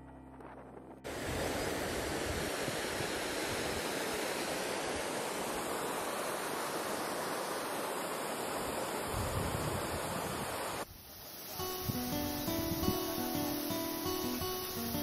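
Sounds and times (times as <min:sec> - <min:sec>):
river rushing over rapids: 0:01.1 - 0:15.0.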